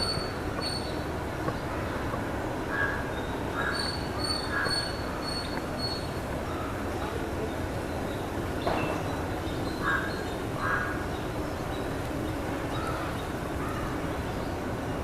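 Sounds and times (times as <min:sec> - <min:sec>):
bird calls: 0:00.0 - 0:02.0, 0:02.7 - 0:14.6
outdoor background noise: 0:00.0 - 0:15.0.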